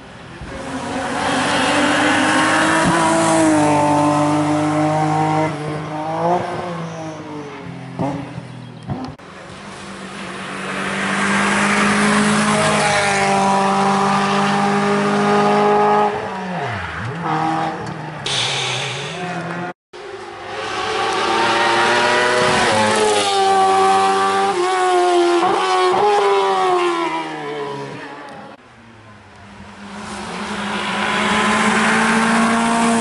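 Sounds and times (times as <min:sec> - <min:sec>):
race car engines at full throttle: 0:00.0 - 0:33.0.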